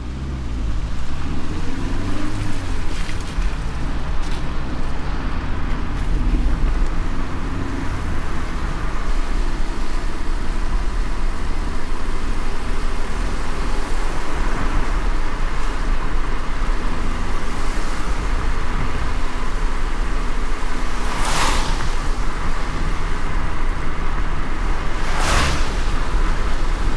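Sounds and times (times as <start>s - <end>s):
car road rumble: 0.0s - 26.9s
hiss of tyres and rain: 0.0s - 26.9s.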